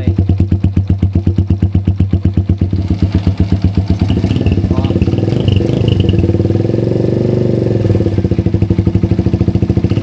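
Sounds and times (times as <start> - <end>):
motorcycle engine exhaust pulsing: 0.0 - 10.0.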